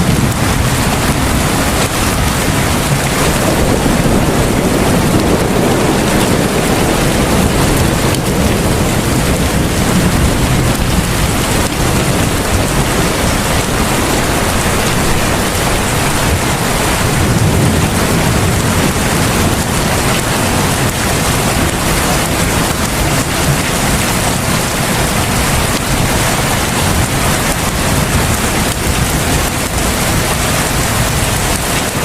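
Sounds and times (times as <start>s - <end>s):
heavy rain pouring: 0.0s - 32.0s.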